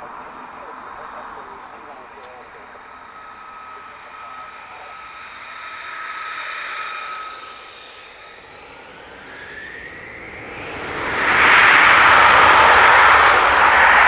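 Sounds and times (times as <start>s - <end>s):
jet engine whining: 0.0s - 14.0s.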